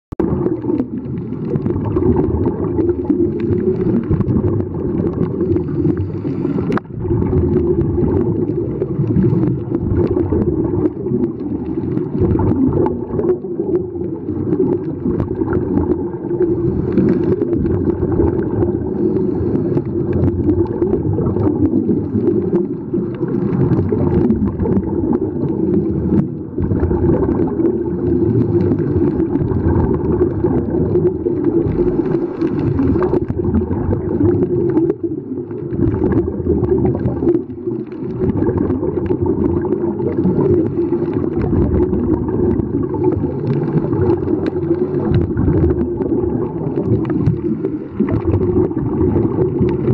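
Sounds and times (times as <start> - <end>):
low underwater rumble: 0.1 - 49.9
bubbling of exhaled air: 0.2 - 49.9.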